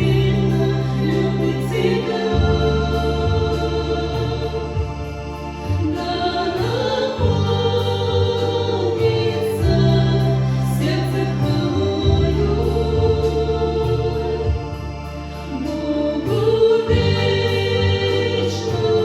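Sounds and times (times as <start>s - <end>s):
organ: 0.0s - 19.0s
voices singing a hymn: 0.0s - 19.0s.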